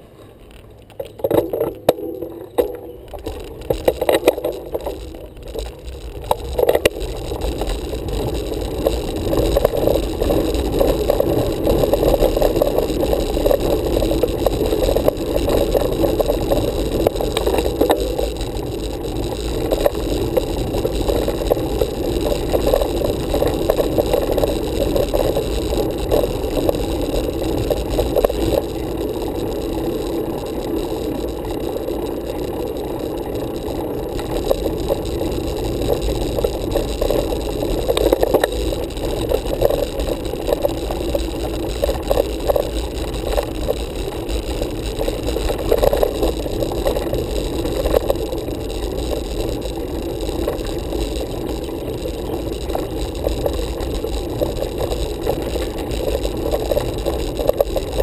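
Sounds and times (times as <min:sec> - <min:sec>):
bicycle rolling on asphalt: 0:00.0 - 0:58.0.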